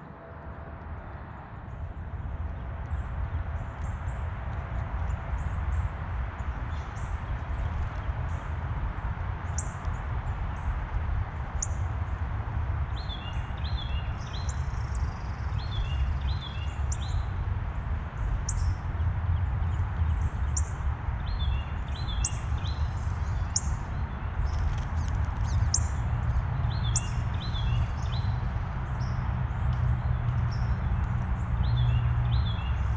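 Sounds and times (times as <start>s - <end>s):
steady low rumble: 0.0s - 32.9s
songbirds chipping: 1.7s - 32.9s.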